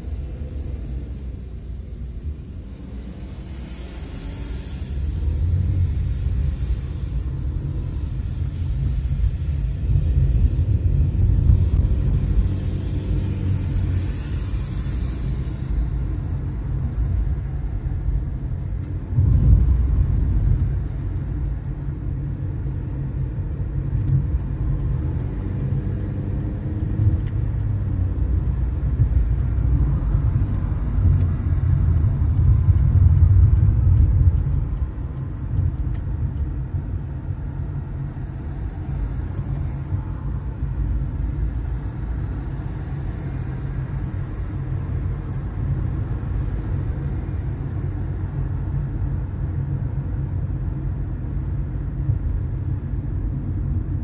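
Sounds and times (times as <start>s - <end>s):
car interior rumble: 0.0s - 54.0s.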